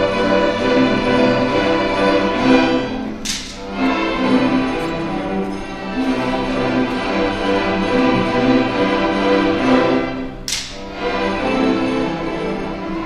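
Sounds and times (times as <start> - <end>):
school orchestra playing: 0.0 - 13.0.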